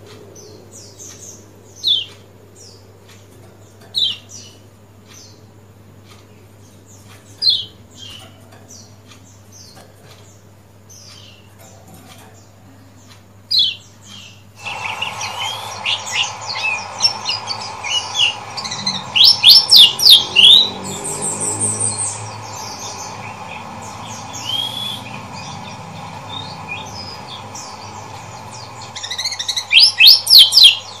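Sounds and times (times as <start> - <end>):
steady background hum: 0.0 - 31.0
bird chirping and trilling: 0.4 - 5.5, 6.4 - 31.0.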